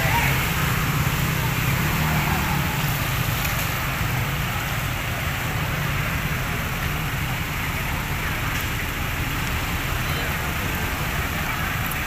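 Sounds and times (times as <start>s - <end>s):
motorbike engines running: 0.0s - 12.0s
water rushing and splashing: 0.0s - 12.0s.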